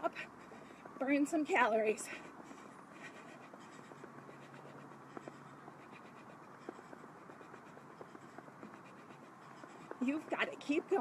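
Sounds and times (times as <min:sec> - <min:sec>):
rapid footsteps tapping ground: 0:00.0 - 0:11.0.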